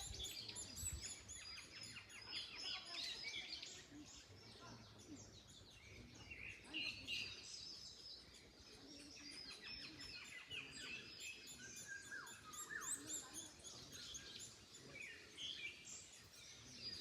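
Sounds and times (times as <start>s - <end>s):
faint wind in trees: 0.0s - 17.0s
songbirds chirping and singing: 0.0s - 17.0s.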